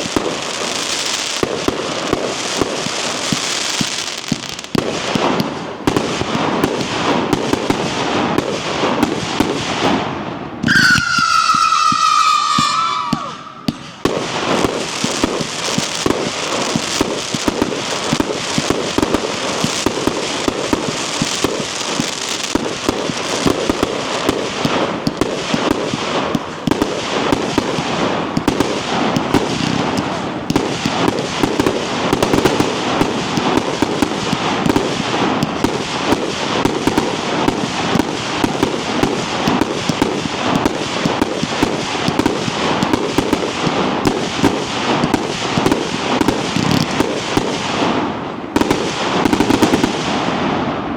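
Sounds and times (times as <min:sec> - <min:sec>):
firework cake firing rapidly: 0:00.0 - 0:50.9.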